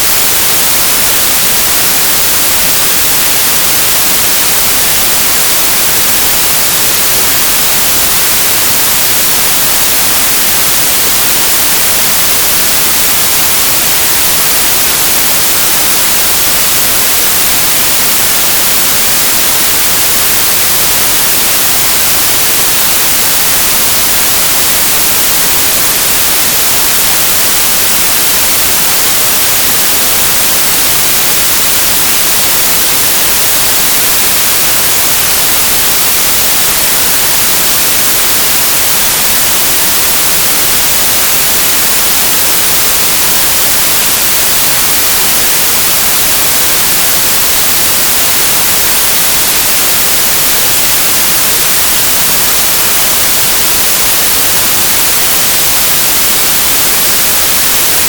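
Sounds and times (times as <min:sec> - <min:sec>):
synthesized white noise: 0:00.0 - 0:58.0.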